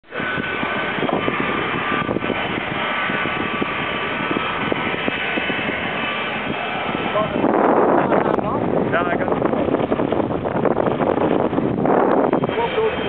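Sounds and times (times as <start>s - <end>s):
jet engines whining and rushing: 0.0s - 13.0s.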